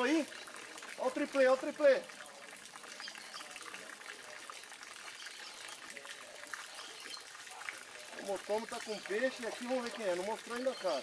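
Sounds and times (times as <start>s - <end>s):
pond water trickling: 0.0s - 11.0s.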